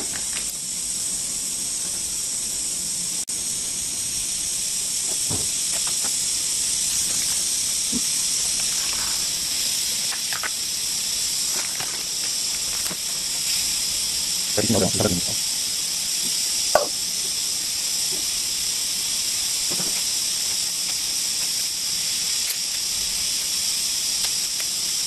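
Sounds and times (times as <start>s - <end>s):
steam hissing: 0.0s - 25.0s.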